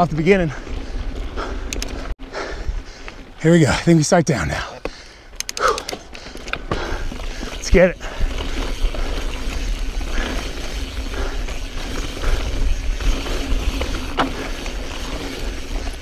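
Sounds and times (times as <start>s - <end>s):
bike tyres on dirt: 0.0s - 16.0s.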